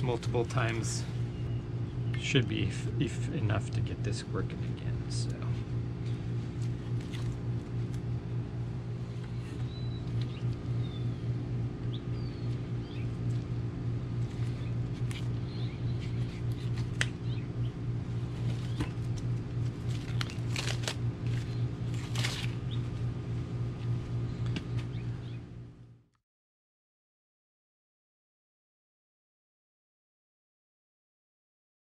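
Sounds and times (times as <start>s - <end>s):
air conditioner humming: 0.0s - 26.0s.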